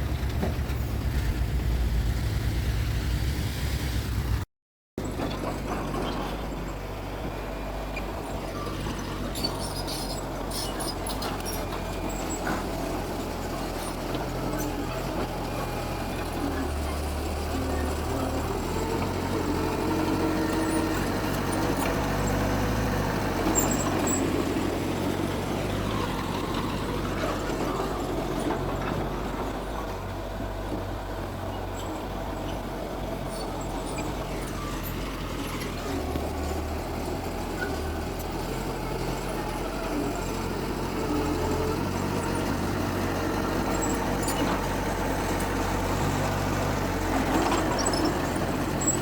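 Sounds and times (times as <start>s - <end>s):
heavy machinery diesel drone: 5.0s - 49.0s.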